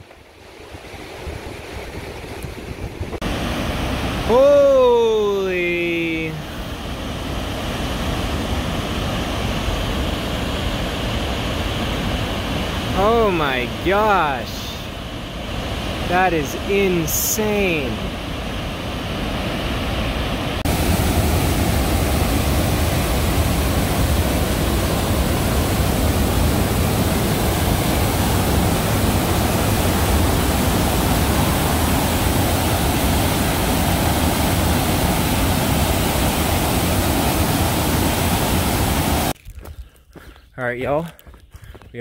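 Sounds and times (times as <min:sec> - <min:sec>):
whitewater rushing over falls: 0:03.2 - 0:39.4.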